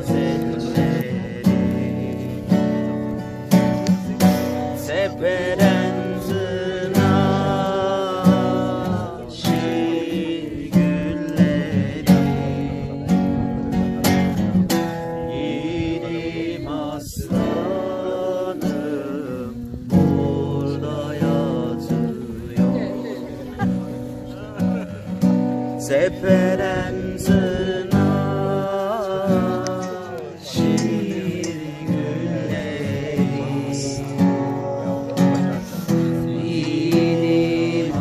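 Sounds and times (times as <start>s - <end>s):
acoustic guitar strumming: 0.0s - 38.0s
voices singing: 0.0s - 38.0s.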